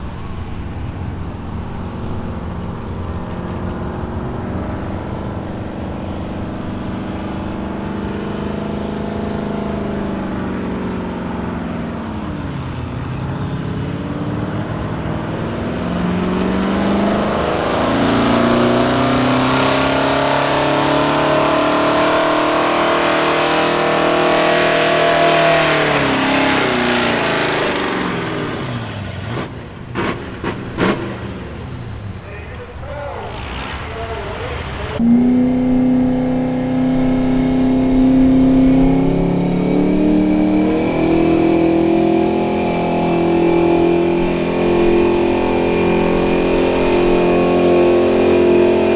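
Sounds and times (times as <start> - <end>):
truck engine at full throttle: 0.0 - 48.9.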